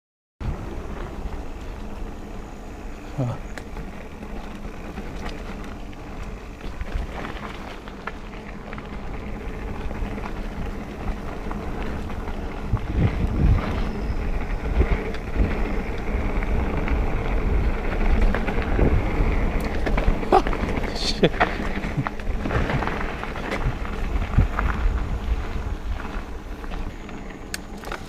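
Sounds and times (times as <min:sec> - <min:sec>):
bike tyre noise on dirt: 0:00.4 - 0:28.0
wind rumbling on microphone: 0:00.4 - 0:28.0
bike clicks and knocks: 0:03.4 - 0:28.0.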